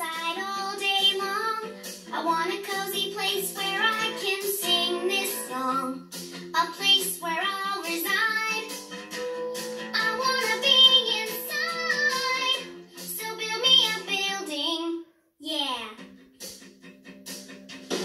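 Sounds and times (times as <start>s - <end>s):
young voice singing: 0.0s - 8.8s, 9.9s - 16.0s
light instrumental backing: 0.1s - 14.2s, 16.0s - 18.0s.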